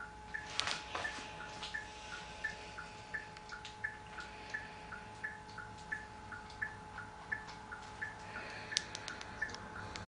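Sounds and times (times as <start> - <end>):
faint steady hum: 0.0 - 10.0
turn signal ticking: 0.0 - 10.0.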